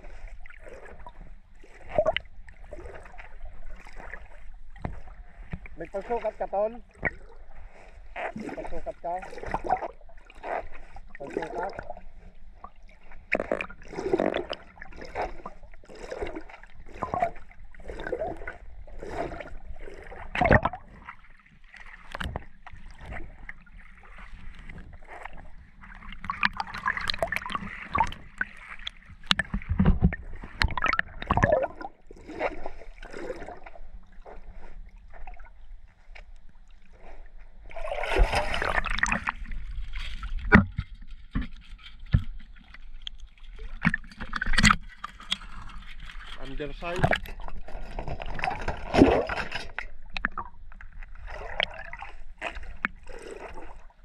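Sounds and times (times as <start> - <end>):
water slapping against a boat: 0.0 - 36.4, 37.6 - 54.0.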